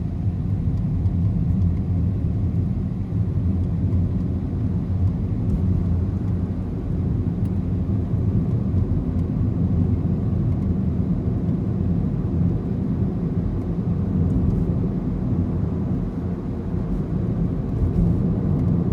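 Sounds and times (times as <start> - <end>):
car engine and tyre rumble: 0.0 - 18.9.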